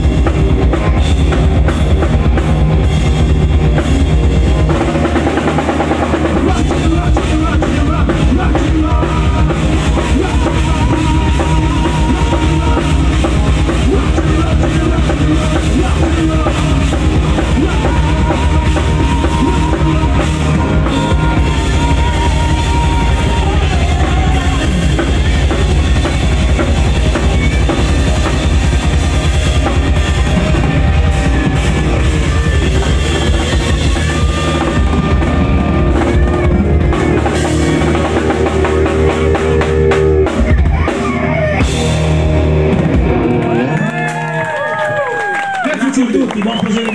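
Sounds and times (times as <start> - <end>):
wavering lead guitar notes: 0.0 - 45.1
bass guitar: 0.0 - 45.6
drum kit: 0.0 - 45.6
distorted electric guitars: 0.0 - 46.9.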